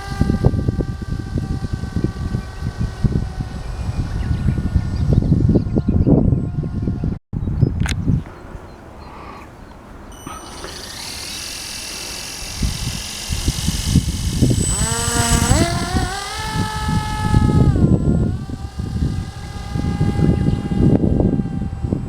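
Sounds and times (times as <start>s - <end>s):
motor whine: 0.0s - 7.2s, 10.0s - 22.0s.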